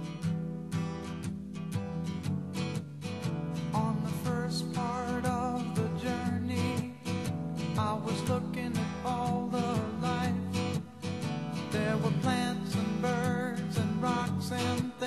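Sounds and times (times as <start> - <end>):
acoustic guitar music with beat: 0.0 - 15.0.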